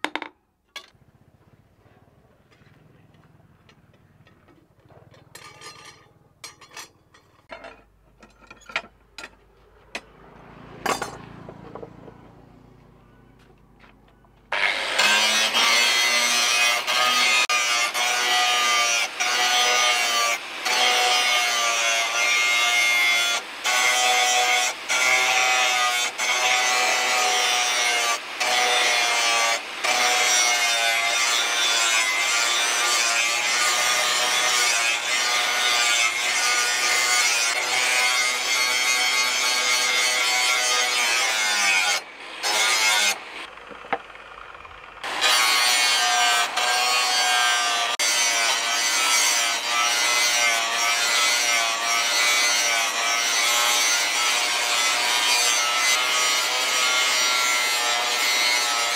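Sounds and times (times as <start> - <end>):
angle grinder grinding steel: 2.5 - 13.9, 14.5 - 58.9.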